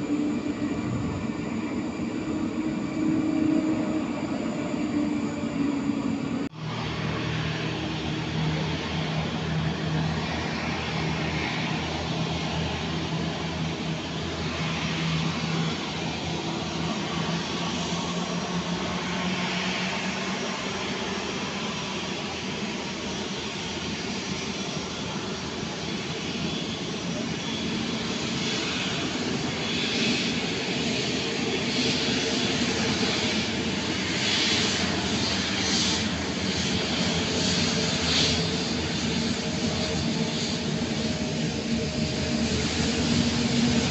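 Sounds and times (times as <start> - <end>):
jet engines whining and rumbling: 0.0 - 43.9.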